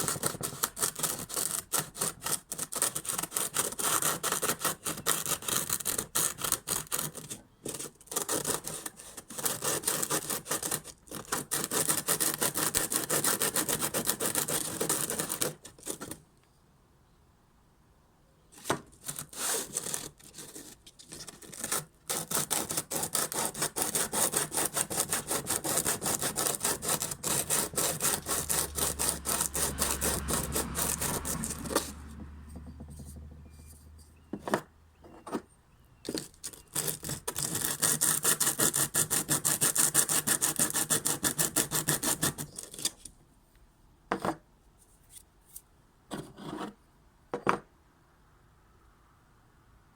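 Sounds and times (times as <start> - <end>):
brake pad scraping on sandpaper: 0.0 - 16.2, 18.6 - 43.1.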